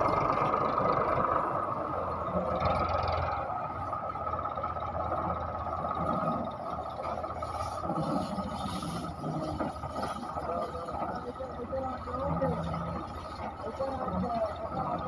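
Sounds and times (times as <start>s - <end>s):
steady rumble: 0.0s - 15.0s
tractor engine hum: 0.0s - 15.0s.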